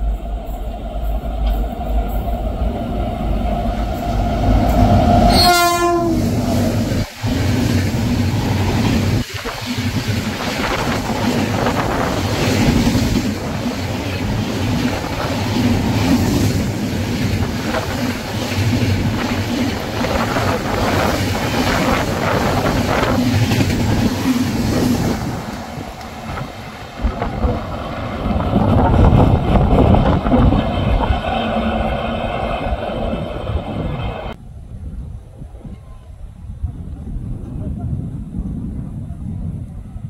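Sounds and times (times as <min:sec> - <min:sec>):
train passing at speed: 0:00.0 - 0:40.0.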